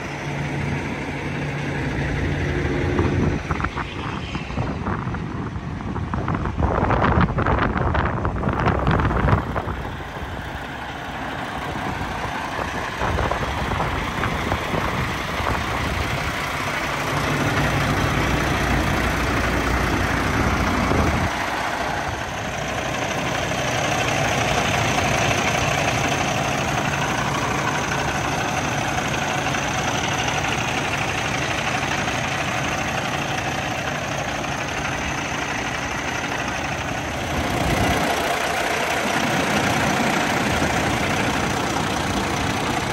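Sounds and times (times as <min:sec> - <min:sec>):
truck diesel engine idling: 0:00.0 - 0:42.9
wind buffeting microphone: 0:02.0 - 0:42.9.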